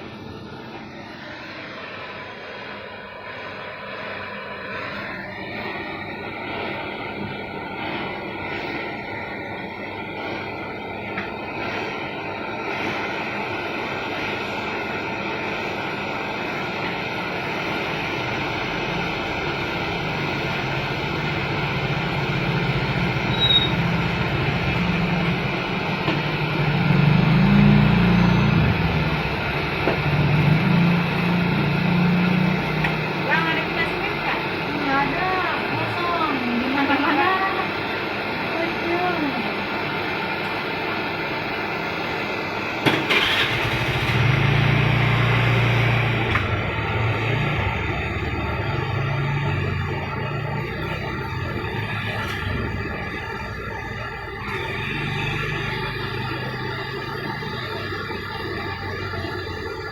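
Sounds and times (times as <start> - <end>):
brazing torch flame hissing: 0.1 - 59.9.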